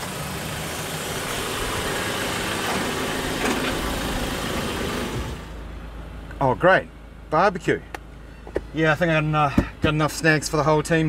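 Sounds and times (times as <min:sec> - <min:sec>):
car engine running: 0:00.0 - 0:11.0
street noise: 0:00.0 - 0:11.0.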